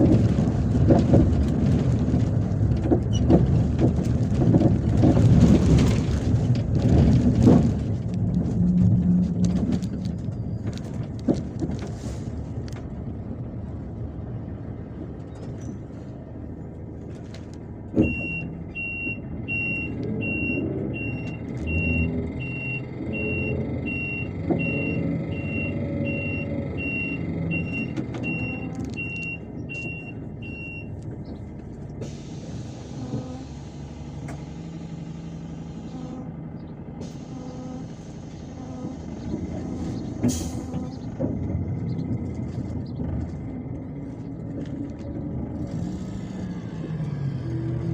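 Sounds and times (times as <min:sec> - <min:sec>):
bus engine hum and road noise: 0:00.0 - 0:47.9.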